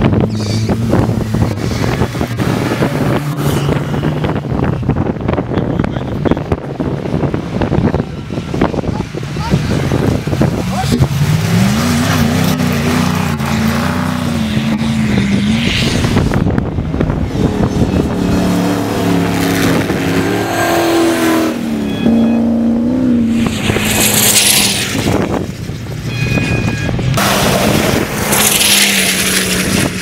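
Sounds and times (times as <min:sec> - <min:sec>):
off-road engines revving: 0:00.0 - 0:30.0
wind buffeting microphone: 0:00.0 - 0:30.0.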